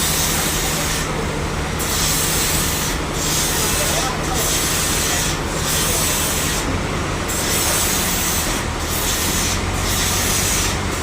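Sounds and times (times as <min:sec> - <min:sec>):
saw hissing through log: 0:00.0 - 0:11.0
sawmill machine hum: 0:00.0 - 0:11.0.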